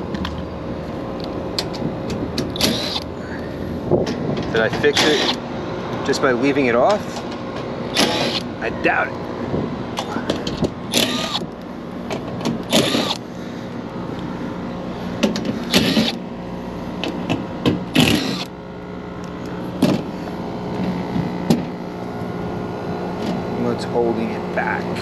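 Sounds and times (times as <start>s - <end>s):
air conditioner compressor hum: 0.0s - 25.0s.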